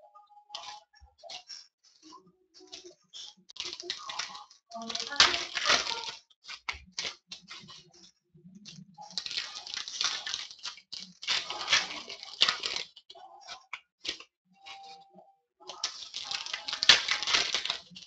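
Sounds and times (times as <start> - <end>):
plastic wrappers crinkling: 0.5 - 15.0, 15.6 - 18.0.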